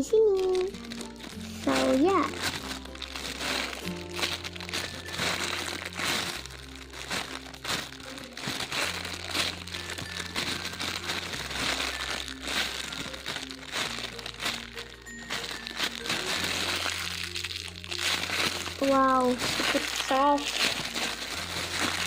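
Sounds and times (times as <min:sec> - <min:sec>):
background music with low chords: 0:00.0 - 0:22.0
foam toy crinkling when squeezed: 0:00.0 - 0:22.0.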